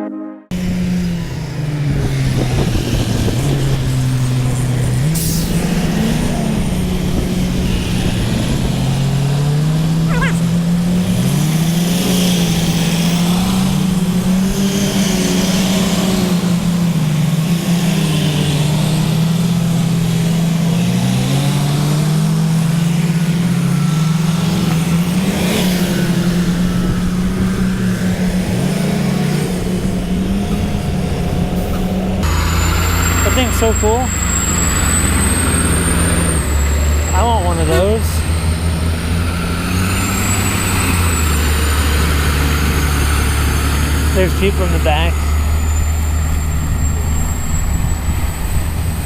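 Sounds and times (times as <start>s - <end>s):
trucks driving past: 0.0s - 49.0s.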